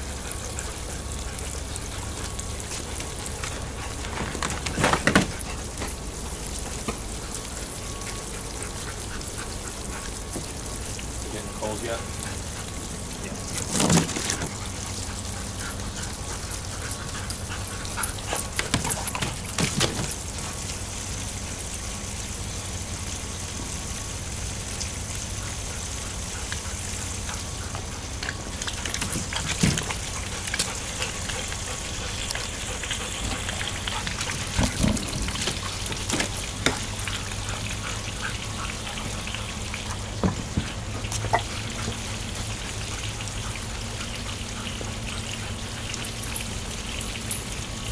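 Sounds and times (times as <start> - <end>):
dogs splashing: 0.0 - 47.9
hose water running into pool: 0.0 - 47.9.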